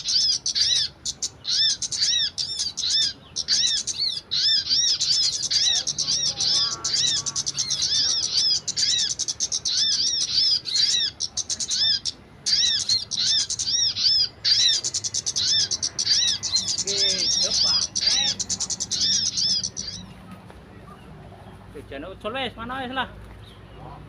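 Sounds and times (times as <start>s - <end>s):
small bird chirping: 0.0s - 21.9s.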